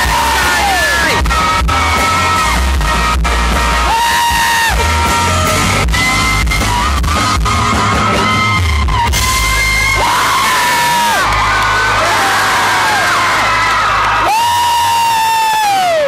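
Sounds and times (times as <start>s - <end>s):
live country band playing: 0.0s - 14.3s
audience yelling and whooping: 0.0s - 16.0s.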